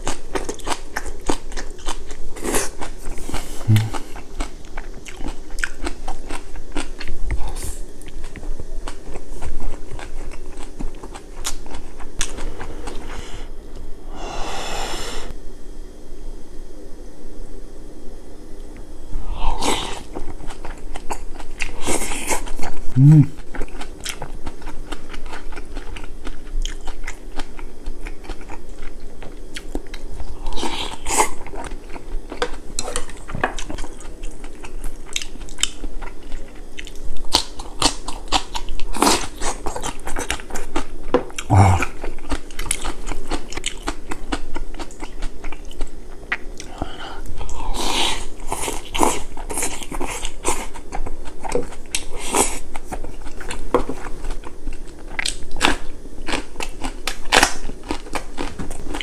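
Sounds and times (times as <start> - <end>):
chewing and biting food: 0.0 - 13.0, 19.9 - 46.8, 47.4 - 59.0.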